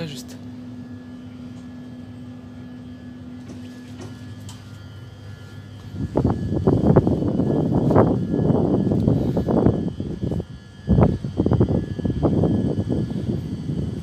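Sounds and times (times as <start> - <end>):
train interior hum with tone: 0.0 - 14.0.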